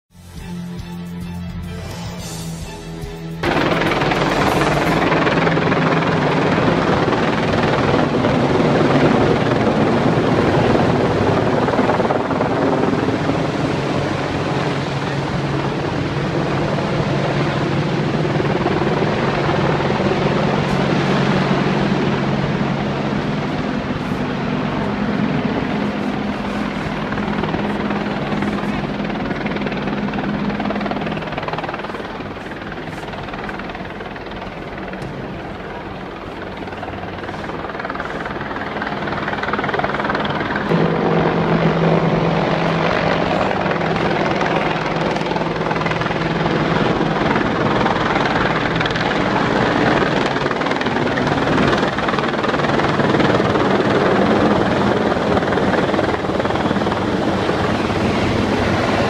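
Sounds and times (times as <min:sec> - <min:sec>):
helicopter rotor and engine: 0:00.3 - 0:59.0.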